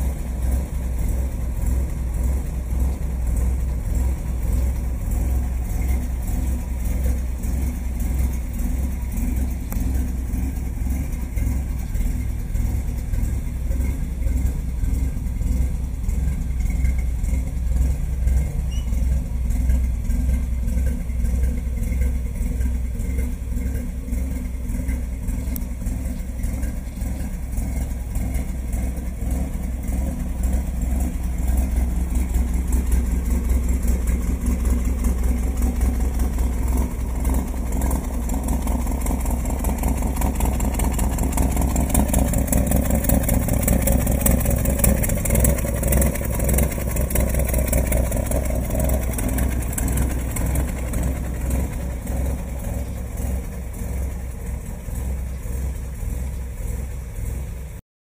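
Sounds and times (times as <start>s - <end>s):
fire truck engine running: 0.0s - 57.8s.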